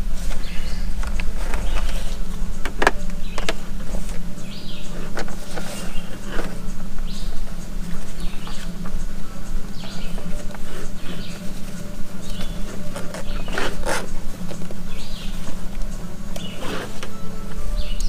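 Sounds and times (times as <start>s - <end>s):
gear clicking and rustling: 0.0s - 18.0s
steady low hum: 0.0s - 18.0s.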